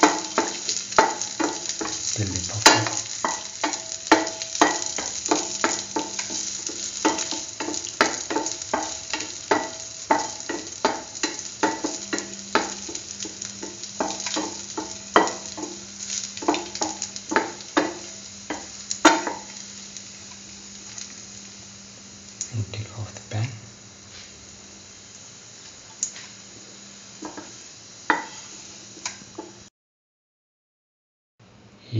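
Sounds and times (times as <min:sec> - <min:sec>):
raisins sizzling in hot fat: 0:00.0 - 0:29.7.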